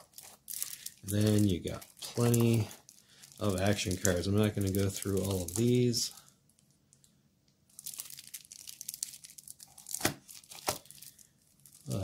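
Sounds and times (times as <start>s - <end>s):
plastic wrap crinkling: 0.0s - 7.1s, 7.7s - 12.0s.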